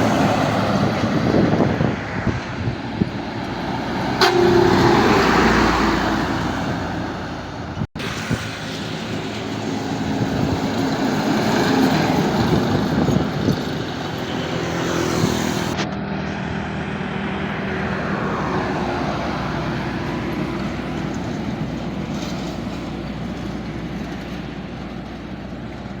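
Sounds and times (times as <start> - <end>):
heavy vehicles passing: 0.0 - 26.0.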